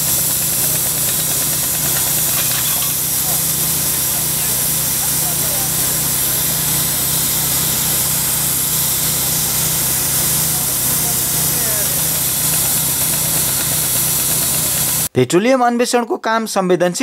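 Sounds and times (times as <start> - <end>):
broad hiss: 0.0 - 15.1.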